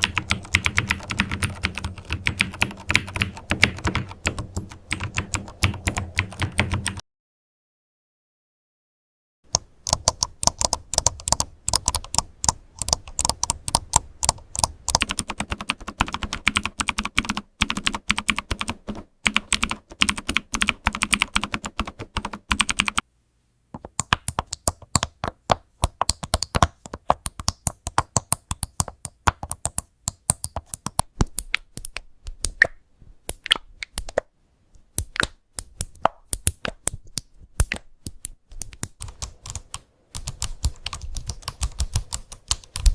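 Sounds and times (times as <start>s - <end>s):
fast keyboard typing: 0.0s - 7.0s, 9.5s - 23.0s, 23.8s - 32.5s, 35.8s - 42.9s.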